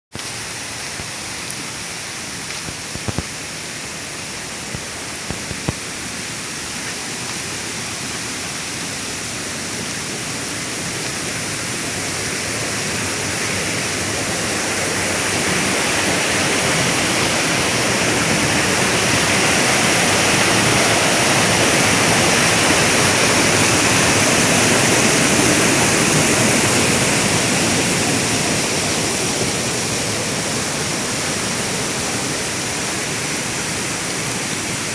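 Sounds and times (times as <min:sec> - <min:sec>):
mountain stream rushing: 0:00.2 - 0:34.9.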